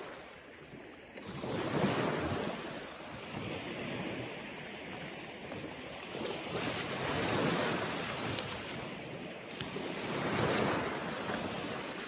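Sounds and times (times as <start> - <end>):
small waves washing onto shore: 0.0 - 12.0.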